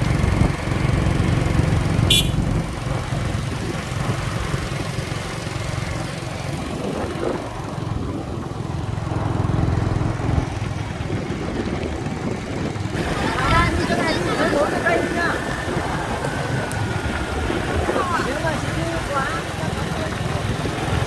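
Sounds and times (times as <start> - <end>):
motorbike engine rumbling: 0.0 - 21.0.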